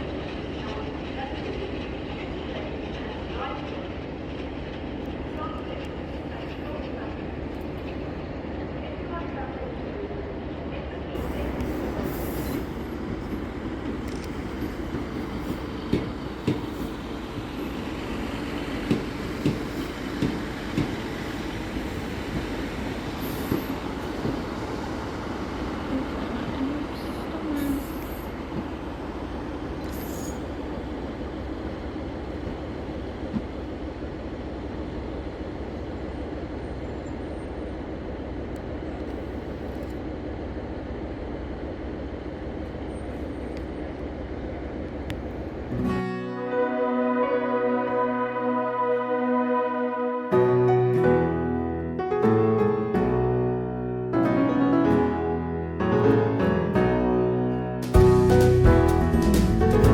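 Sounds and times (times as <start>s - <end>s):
train running noise: 0.0s - 46.0s, 57.8s - 59.9s.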